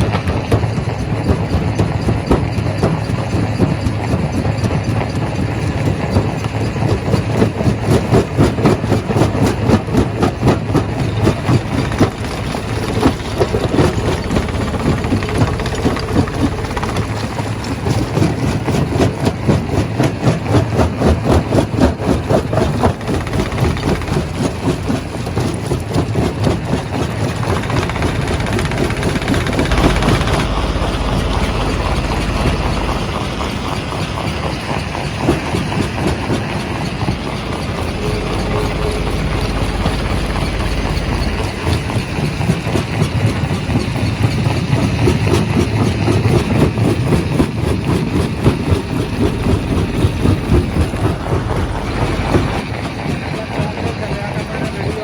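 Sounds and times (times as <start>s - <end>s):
rock crushing machine running: 0.0s - 55.0s.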